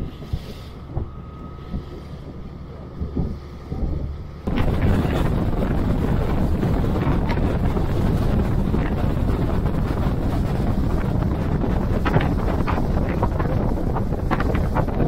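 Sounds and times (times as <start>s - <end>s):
boat rushing through water: 0.0s - 15.0s
wind buffeting microphone: 0.0s - 15.0s.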